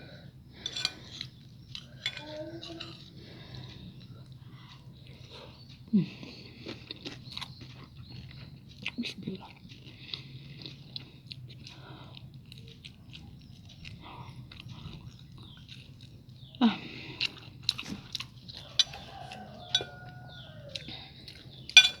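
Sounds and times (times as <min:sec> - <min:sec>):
wet chewing of food: 0:00.0 - 0:22.0.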